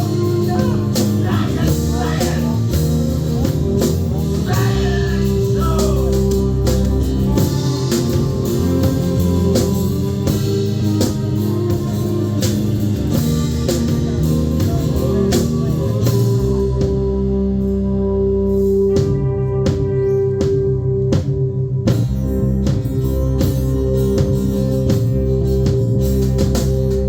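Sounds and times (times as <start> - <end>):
drum kit beat: 0.0 - 18.2, 18.8 - 27.0
bass: 0.0 - 27.0
electric guitar: 0.0 - 27.0.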